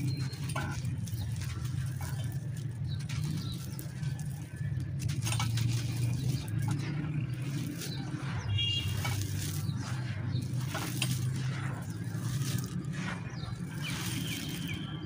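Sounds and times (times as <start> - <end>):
clay crunching in hands: 0.0 - 15.0
steady low hum: 0.0 - 15.0.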